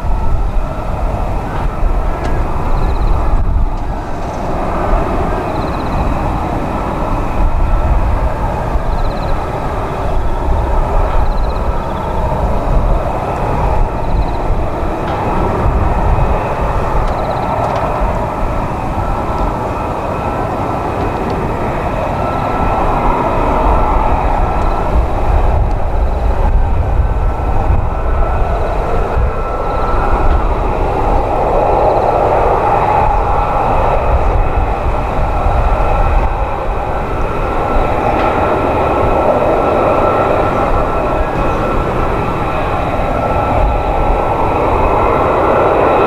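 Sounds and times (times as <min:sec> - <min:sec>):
jet engine rumble: 0:00.0 - 0:46.0.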